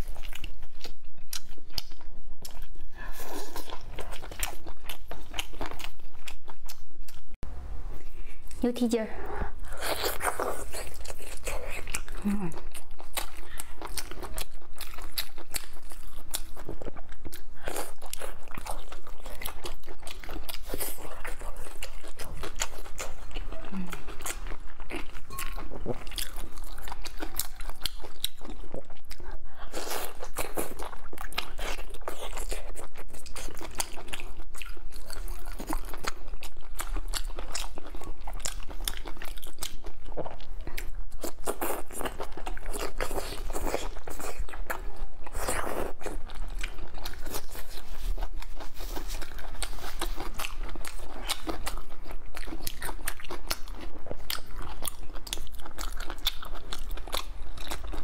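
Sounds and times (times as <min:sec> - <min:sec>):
close chewing and biting: 0:00.0 - 0:07.4, 0:09.6 - 0:58.0.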